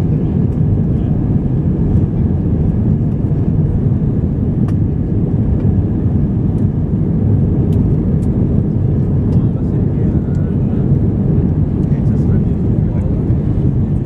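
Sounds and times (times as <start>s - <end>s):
jet cabin engine drone: 0.0s - 14.0s.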